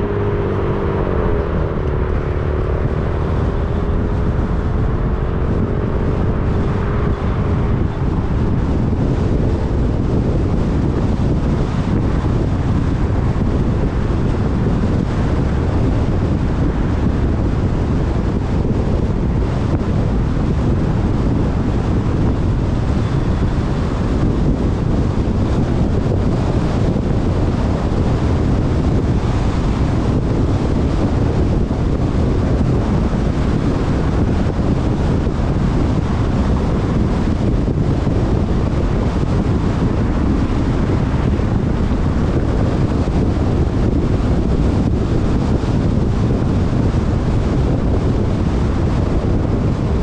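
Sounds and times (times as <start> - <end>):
car road noise: 0.0 - 50.0
wind rumble on microphone: 0.0 - 50.0.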